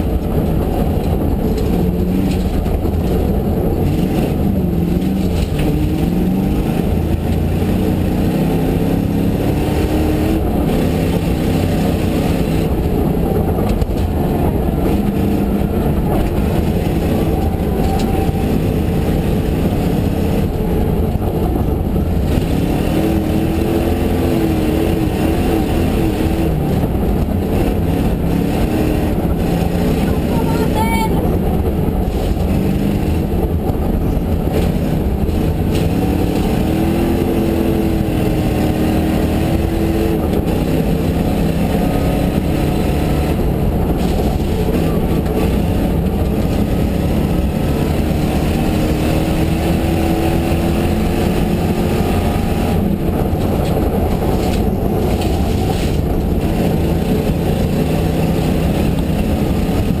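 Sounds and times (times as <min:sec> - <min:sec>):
road and tyre noise on gravel: 0:00.0 - 0:08.2, 0:09.3 - 1:00.0
rally car engine running hard: 0:00.0 - 1:00.0.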